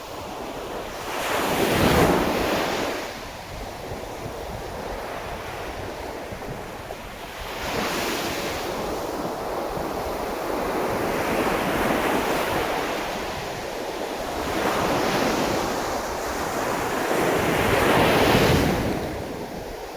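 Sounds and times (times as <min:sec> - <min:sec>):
wind rumbling on microphone: 0:00.0 - 0:19.9.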